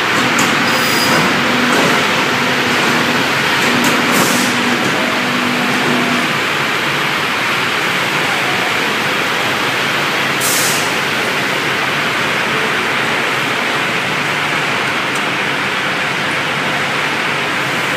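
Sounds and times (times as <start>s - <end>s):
dryer machine running: 0.0s - 17.9s.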